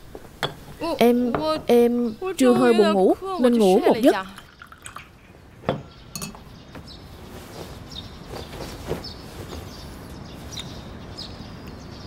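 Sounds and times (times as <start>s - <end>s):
small birds chirping: 0.6s - 12.0s.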